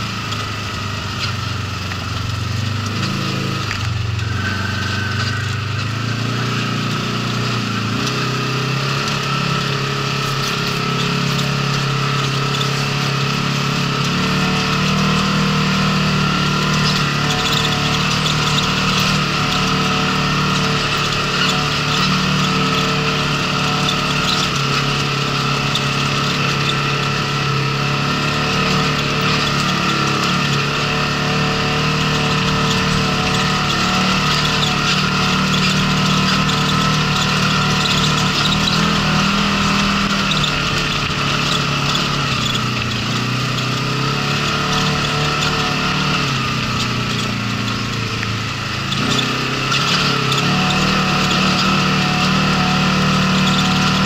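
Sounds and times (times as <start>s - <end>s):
off-road vehicle engine running: 0.0s - 54.0s
tyres on gravel trail: 0.0s - 54.0s.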